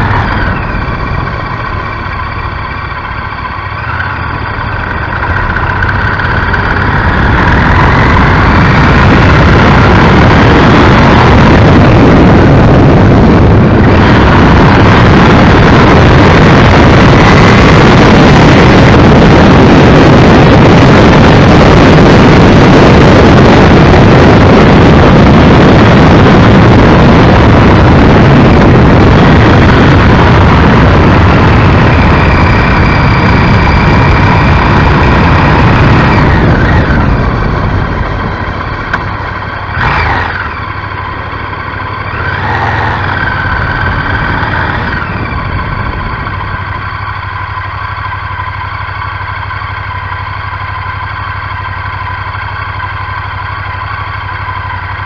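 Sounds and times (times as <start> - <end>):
wind rushing on microphone: 0.0 - 50.9
motorcycle engine: 0.0 - 55.0.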